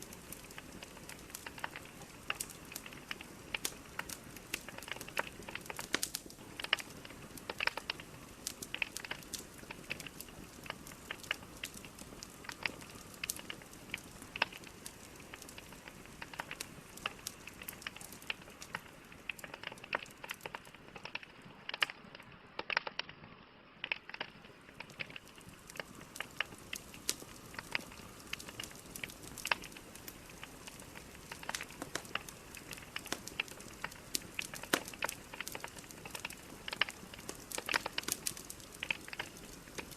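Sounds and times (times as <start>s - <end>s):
logs crackling in fireplace: 0.0s - 39.9s
soft hiss of fire: 0.0s - 39.9s.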